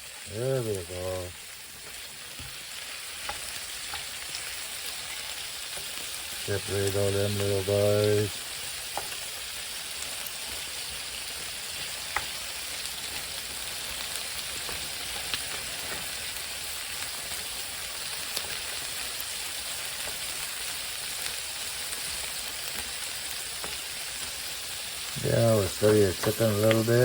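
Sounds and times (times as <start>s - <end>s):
food sizzling in a pan: 0.0s - 27.0s
popping and crackling: 0.6s - 27.0s.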